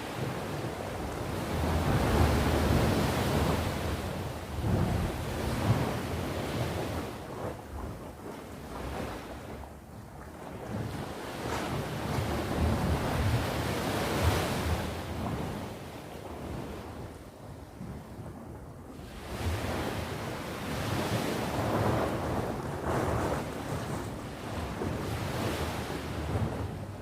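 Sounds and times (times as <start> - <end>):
waves breaking on shore: 0.0 - 9.9, 10.7 - 17.1, 17.8 - 27.0.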